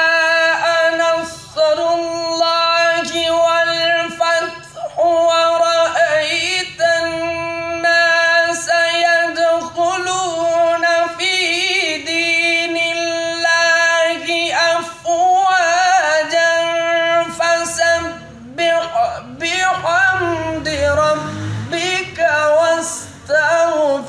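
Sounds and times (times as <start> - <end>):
person singing long notes: 0.0 - 24.0.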